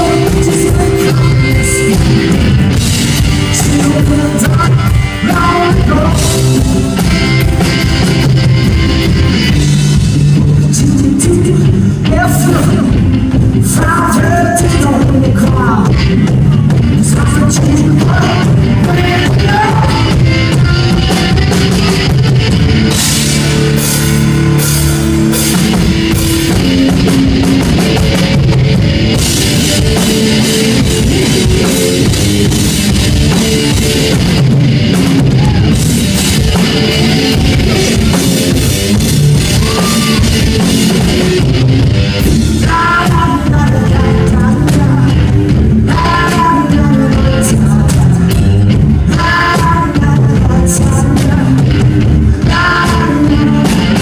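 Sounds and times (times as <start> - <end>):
distorted electric guitar: 0.0 - 54.0.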